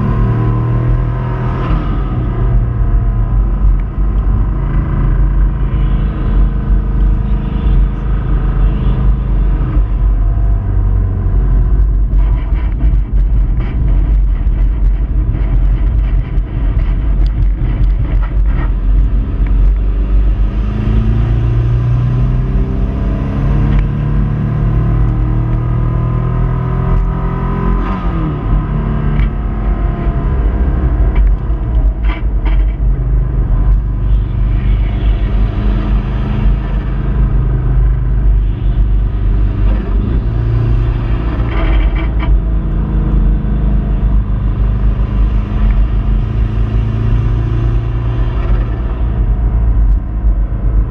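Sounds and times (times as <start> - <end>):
car engine revving: 0.0 - 50.9
wind and road rumble: 0.0 - 50.9.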